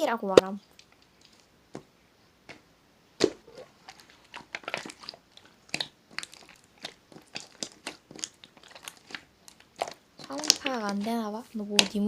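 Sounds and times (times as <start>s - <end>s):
slime crackling and popping: 0.0s - 12.0s.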